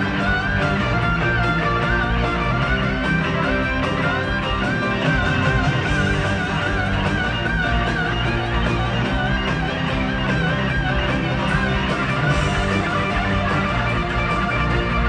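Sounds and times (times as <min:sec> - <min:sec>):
lead guitar bent notes: 0:00.0 - 0:15.0
rock band with electric guitars: 0:00.0 - 0:15.0.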